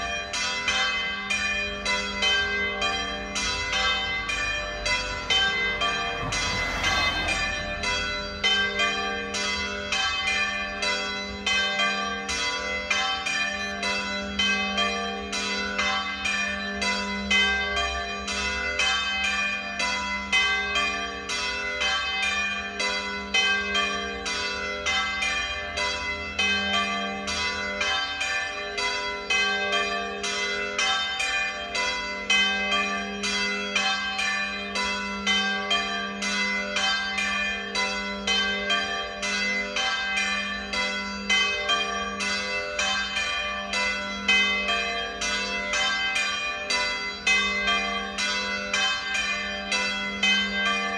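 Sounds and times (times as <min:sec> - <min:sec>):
church bells ringing: 0:00.0 - 0:50.9.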